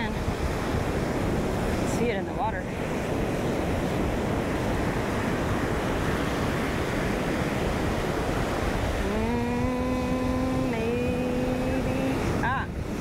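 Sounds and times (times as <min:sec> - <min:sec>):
surf breaking on beach: 0:00.0 - 0:13.0
wind on microphone: 0:00.0 - 0:13.0.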